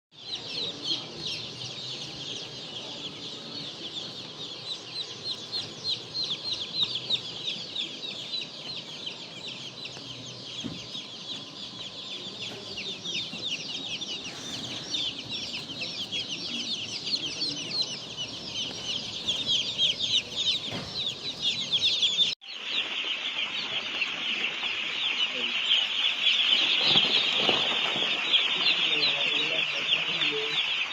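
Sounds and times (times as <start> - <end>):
chicks peeping: 0.2 - 30.9.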